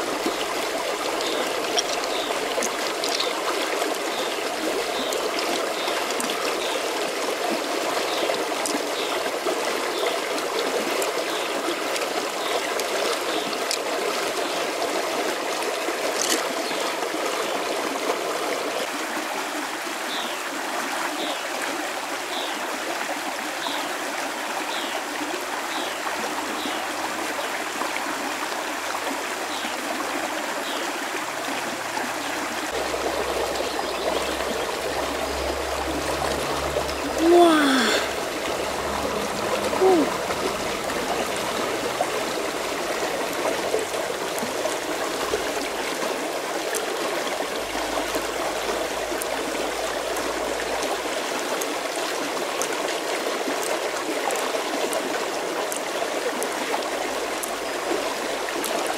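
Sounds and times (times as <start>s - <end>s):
stream rushing over rocks: 0.0s - 58.9s.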